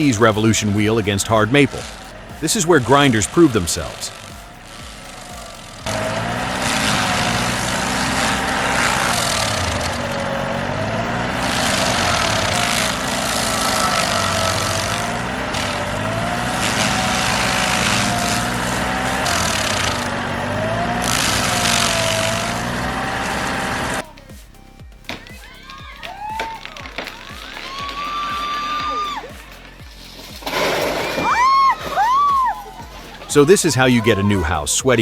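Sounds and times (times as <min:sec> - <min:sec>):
wood grinding and flying chips: 0:00.0 - 0:24.0, 0:25.1 - 0:34.7
stump grinder engine under load: 0:00.0 - 0:24.1, 0:26.6 - 0:34.6.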